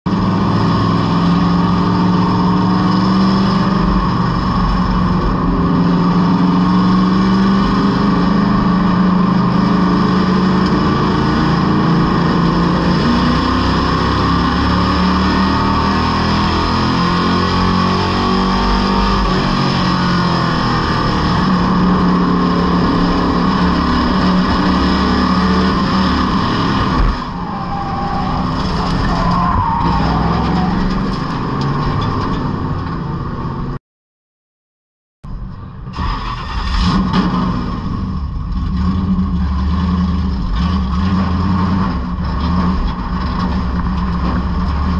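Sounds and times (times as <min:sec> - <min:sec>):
race car engine at full throttle: 0:00.0 - 0:33.8, 0:35.3 - 0:44.9.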